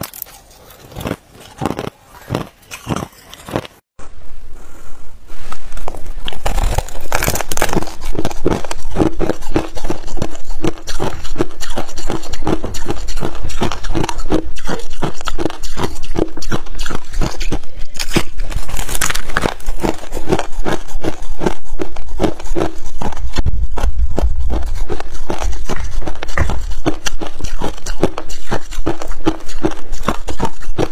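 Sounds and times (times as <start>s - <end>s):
crushed ice being chewed: 0.0s - 3.8s, 5.5s - 30.9s.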